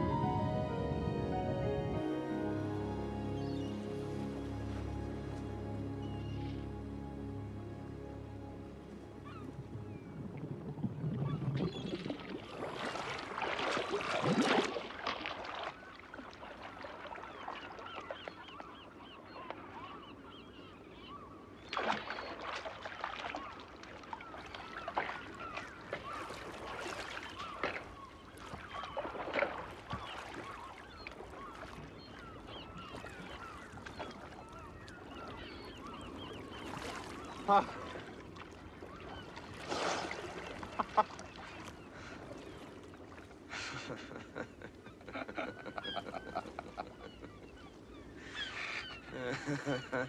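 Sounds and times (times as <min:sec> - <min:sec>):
seagulls crying: 0:00.0 - 0:07.3, 0:08.2 - 0:10.2, 0:17.1 - 0:50.0
sea water lapping and splashing: 0:00.0 - 0:50.0.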